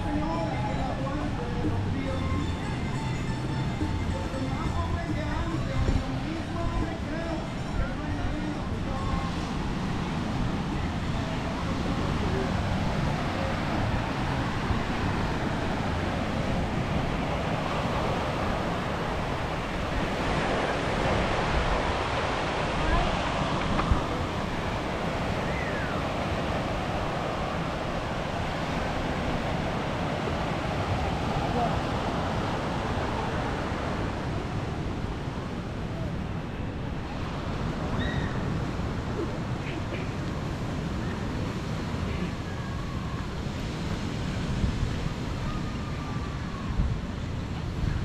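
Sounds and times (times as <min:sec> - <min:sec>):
surf: 0:00.0 - 0:48.0
wind buffeting microphone: 0:02.7 - 0:48.0.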